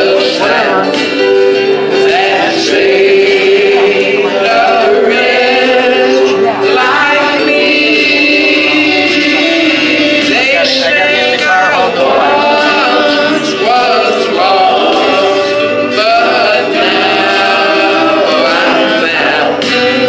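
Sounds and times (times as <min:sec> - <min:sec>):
gospel group singing in harmony: 0:00.0 - 0:20.0.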